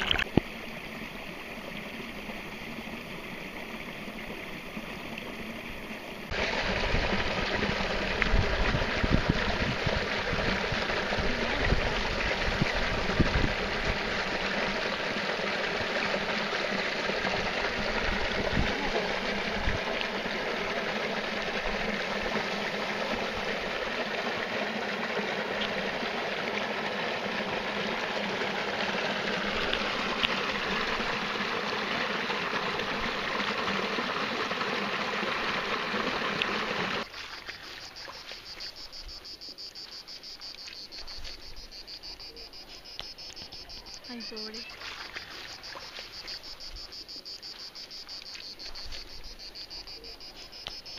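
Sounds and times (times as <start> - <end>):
crickets chirping: 0.0 - 50.9
stream running over rocks: 0.0 - 50.9.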